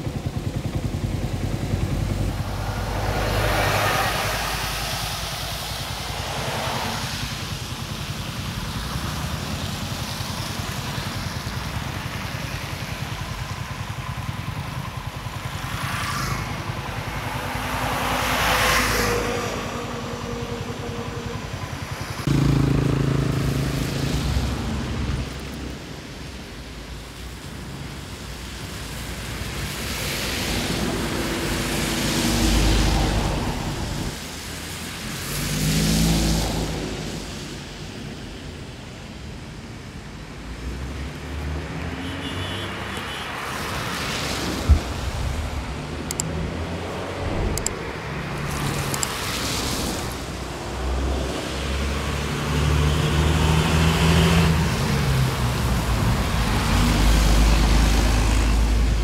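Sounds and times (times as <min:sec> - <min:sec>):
vehicles passing on wet street: 0:00.0 - 0:59.0.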